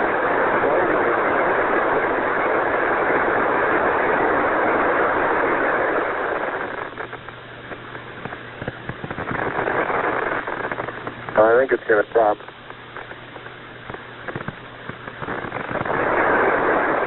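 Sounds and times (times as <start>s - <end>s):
faint steady hum: 0.0s - 17.0s
radio crackles: 0.0s - 17.0s
radio static hiss: 0.0s - 17.0s.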